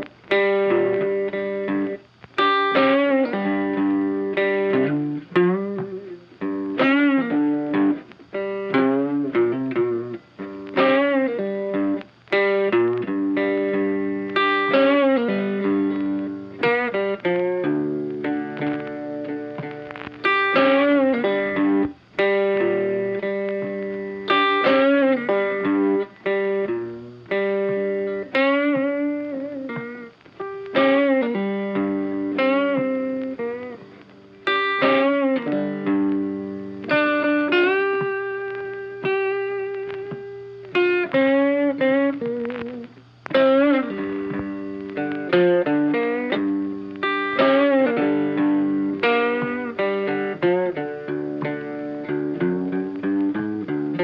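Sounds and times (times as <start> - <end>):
picked guitar with bent notes: 0.0 - 54.0.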